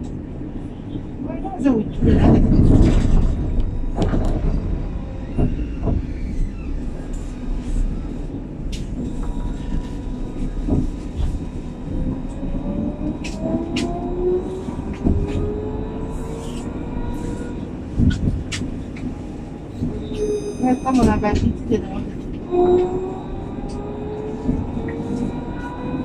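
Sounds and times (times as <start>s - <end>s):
tram drive whine: 0.0s - 26.0s
tram wheels rumbling on track: 0.0s - 26.0s.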